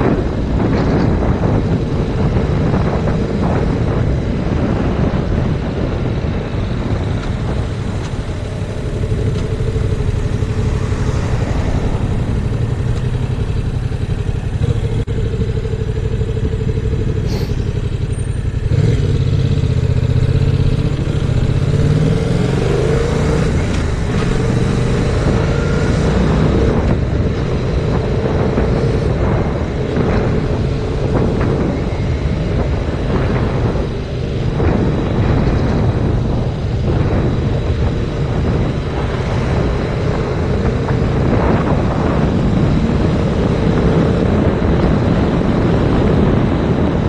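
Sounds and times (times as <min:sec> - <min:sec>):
motorcycle engine running: 0:00.0 - 0:47.0
wind buffeting microphone: 0:00.0 - 0:47.0.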